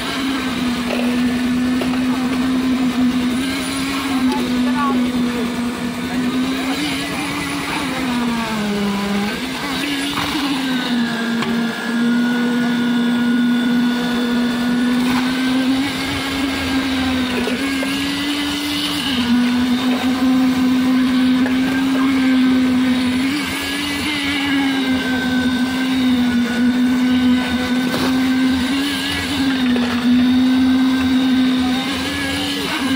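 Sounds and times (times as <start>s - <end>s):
concrete vibrator humming: 0.0s - 32.9s.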